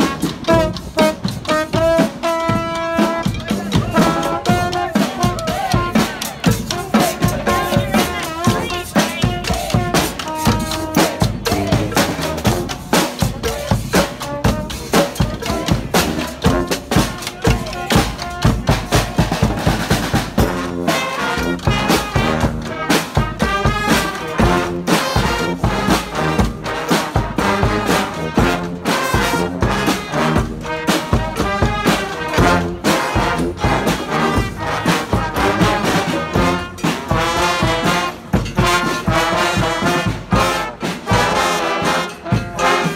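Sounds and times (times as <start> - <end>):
drums keeping a steady beat: 0.0 - 42.9
trumpets and trombones playing: 0.0 - 42.9.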